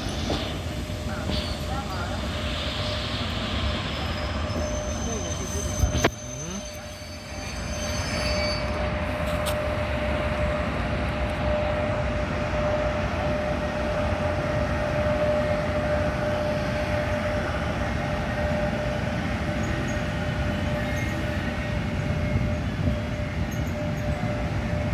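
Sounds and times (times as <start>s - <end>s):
electric train rolling rumble: 0.0s - 24.9s.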